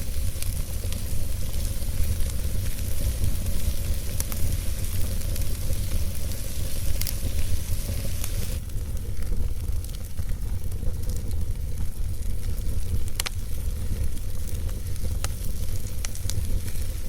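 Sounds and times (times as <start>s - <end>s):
campfire hissing: 0.0s - 17.0s
campfire pops: 0.0s - 17.0s
low rumble: 0.0s - 17.0s.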